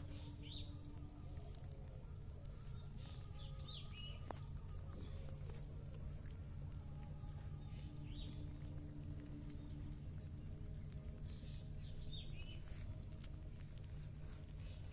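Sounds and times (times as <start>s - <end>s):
small birds chirping: 0.0s - 14.9s
steady low rumble: 0.0s - 14.9s.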